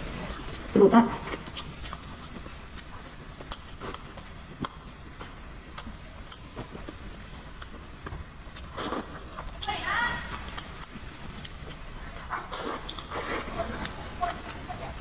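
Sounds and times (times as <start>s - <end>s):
wet chewing and mouth smacks: 0.2s - 15.0s.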